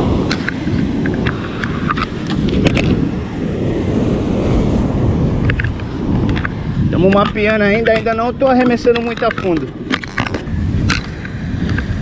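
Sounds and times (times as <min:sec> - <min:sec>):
breaking surf: 0:00.0 - 0:12.0
wind buffeting microphone: 0:00.0 - 0:12.0.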